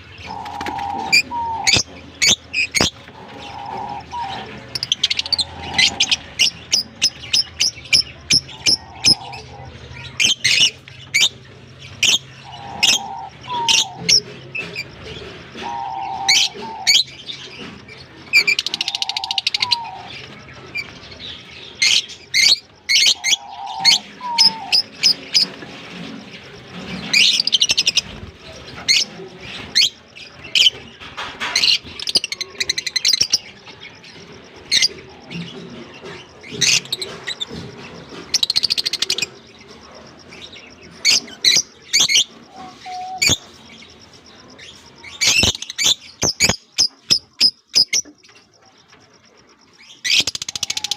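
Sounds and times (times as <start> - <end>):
lovebirds chirping: 0.0 - 50.9.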